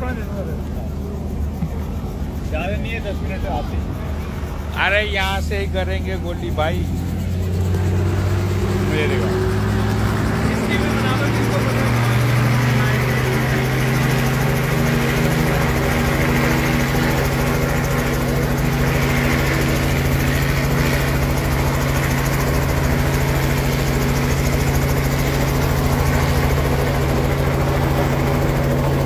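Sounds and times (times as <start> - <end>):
helicopter engine and rotor hum: 0.0 - 29.0.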